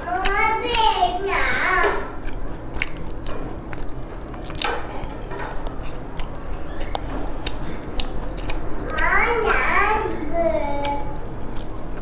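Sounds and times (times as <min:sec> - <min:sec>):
chewing crunchy pastry: 0:00.0 - 0:12.0.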